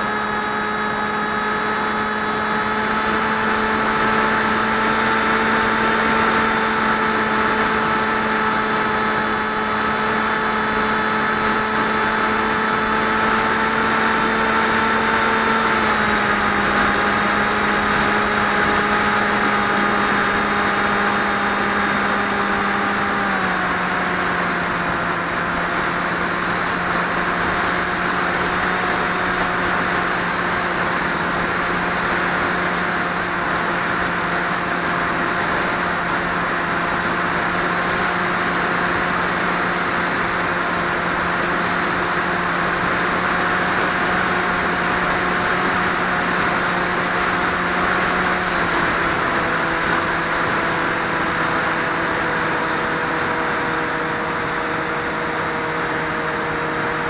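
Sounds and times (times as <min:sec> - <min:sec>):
electric motor and propeller: 0:00.0 - 0:57.0.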